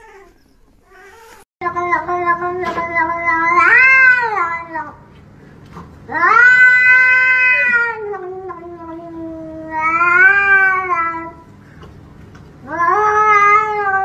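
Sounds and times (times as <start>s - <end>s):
cat yowling: 0.0s - 4.9s, 6.1s - 11.4s, 12.6s - 14.0s.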